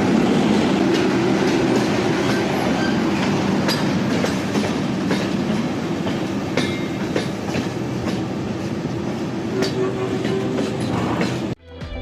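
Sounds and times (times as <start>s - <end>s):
train rumbling on track: 0.0s - 11.6s.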